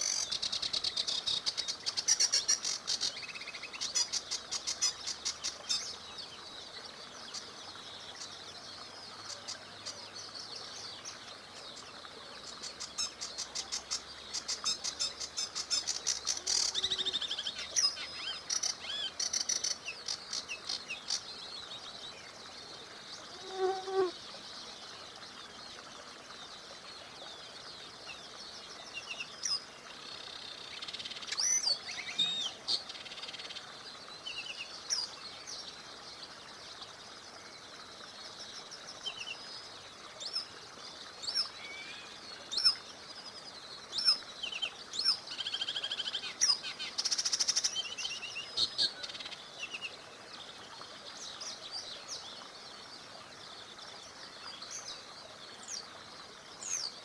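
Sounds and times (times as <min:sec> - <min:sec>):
songbirds chirping: 0:00.0 - 0:57.0
stream flowing: 0:00.0 - 0:57.0.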